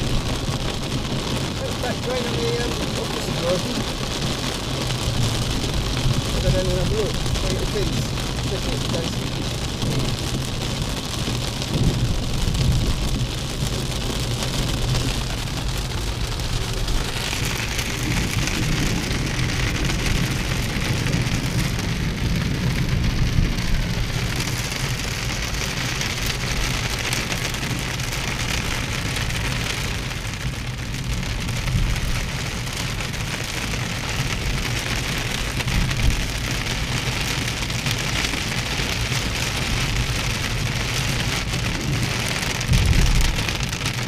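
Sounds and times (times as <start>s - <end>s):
heavy rain on car roof: 0.0s - 44.0s
low engine and road hum: 0.0s - 44.0s.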